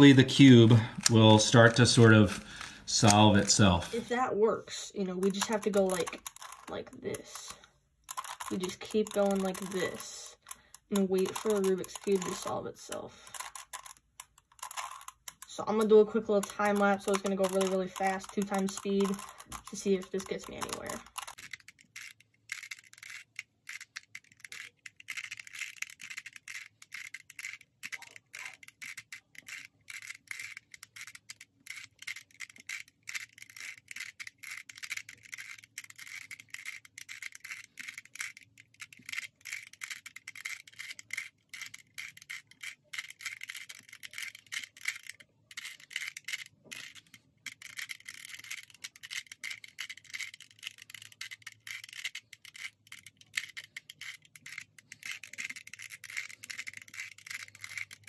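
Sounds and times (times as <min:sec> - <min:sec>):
plastic puzzle cube clicking: 0:00.0 - 0:04.2, 0:05.0 - 0:58.0.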